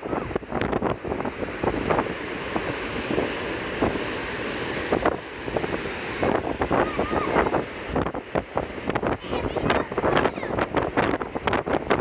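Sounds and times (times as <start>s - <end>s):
rushing hiss of propeller wake: 0.0s - 12.0s
wind buffeting microphone: 0.0s - 12.0s.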